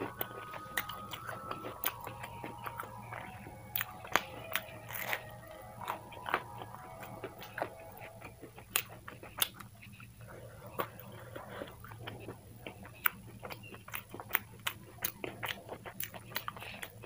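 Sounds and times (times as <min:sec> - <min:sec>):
chewing crispy food: 0:00.0 - 0:17.0
low steady hum: 0:00.0 - 0:17.0.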